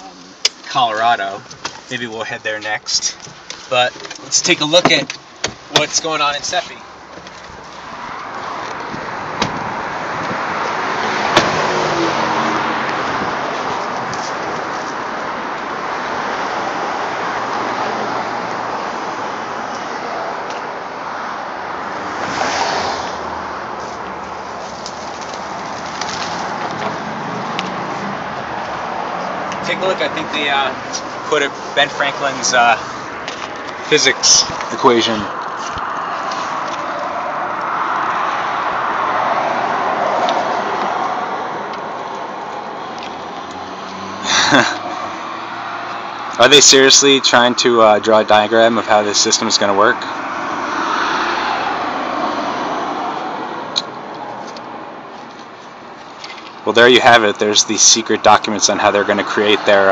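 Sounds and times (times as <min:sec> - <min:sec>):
wind and road rushing noise: 0:00.0 - 0:59.9.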